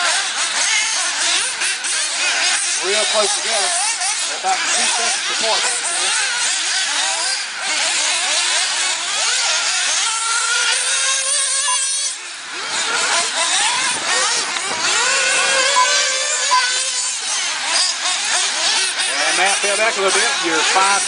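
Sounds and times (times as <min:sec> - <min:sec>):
rc car engines whining: 0:00.0 - 0:21.0.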